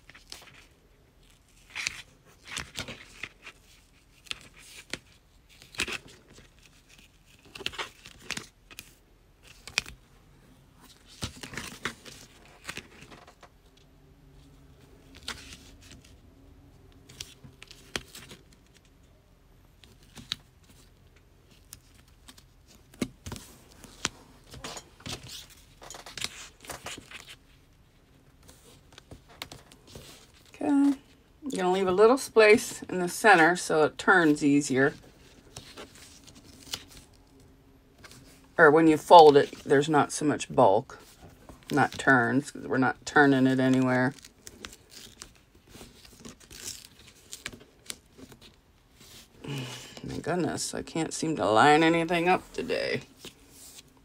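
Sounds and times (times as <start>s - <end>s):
strip crinkling and rustling: 0.0s - 39.8s, 40.8s - 54.0s.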